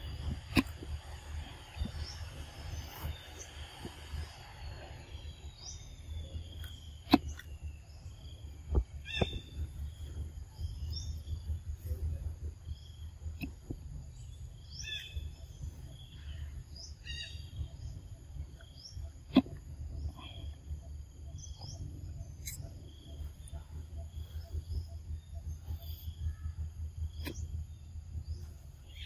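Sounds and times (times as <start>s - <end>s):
bird chirps: 0.0s - 29.0s
insect drone: 0.0s - 29.0s
low rumble: 0.0s - 29.0s.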